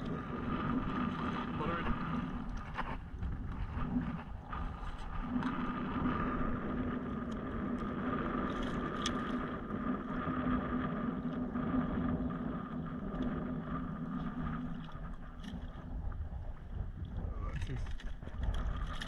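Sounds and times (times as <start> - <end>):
shallow water sloshing: 0.0 - 19.0
steady low hum: 0.0 - 19.0
wind: 0.0 - 19.0.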